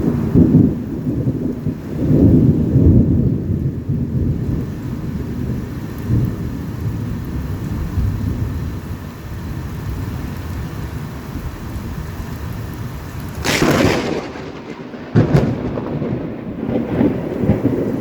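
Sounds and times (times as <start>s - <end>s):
steady hiss of rain: 0.0s - 18.0s
thunder rumbling: 0.0s - 18.0s.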